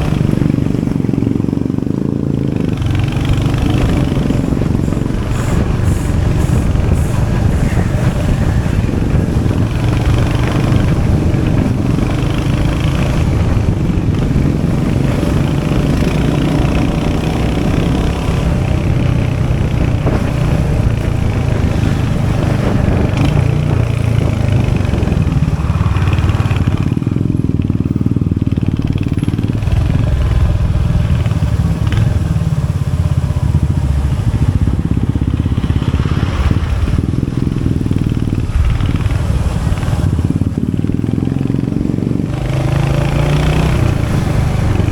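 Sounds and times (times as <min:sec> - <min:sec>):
single-cylinder engine running: 0:00.0 - 0:44.9.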